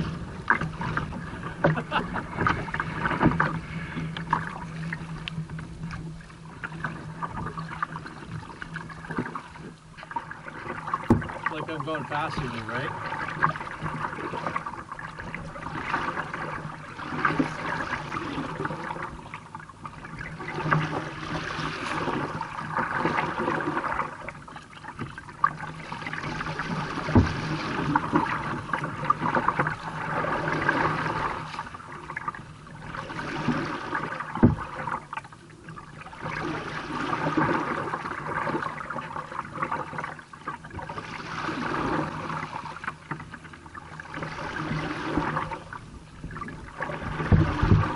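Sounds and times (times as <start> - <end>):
water splashing against a hull: 0.0 - 47.9.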